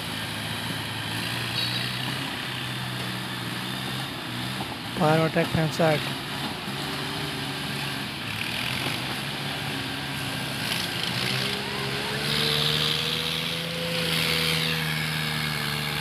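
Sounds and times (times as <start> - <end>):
tractor diesel engine labouring: 0.0 - 16.0.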